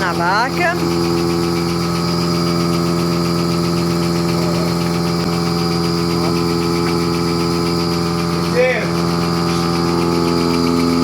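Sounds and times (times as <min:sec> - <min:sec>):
milking machine motor droning: 0:00.0 - 0:11.0.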